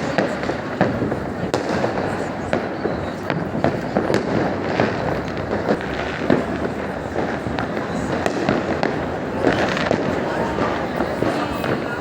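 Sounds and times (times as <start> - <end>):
firecrackers crackling: 0.0 - 12.0
fireworks bangs: 0.0 - 12.0.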